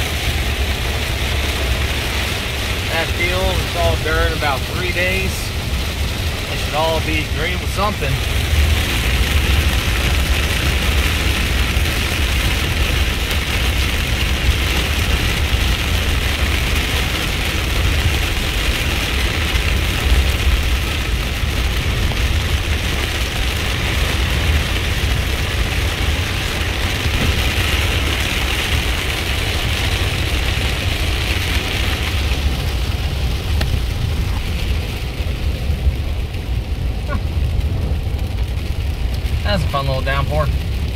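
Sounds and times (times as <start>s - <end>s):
engine and road rumble: 0.0s - 40.9s
heavy rain on vehicle roof: 0.0s - 40.9s.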